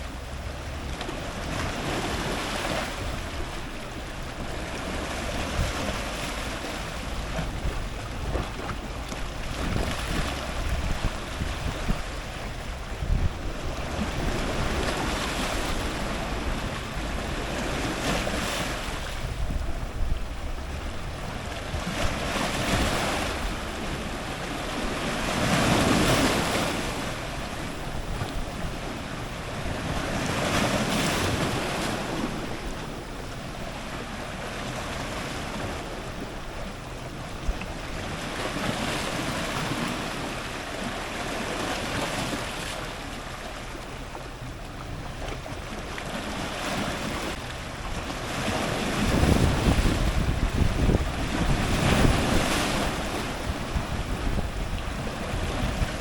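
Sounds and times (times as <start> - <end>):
ocean surf breaking: 0.0 - 56.0
wind rumble on microphone: 0.0 - 56.0.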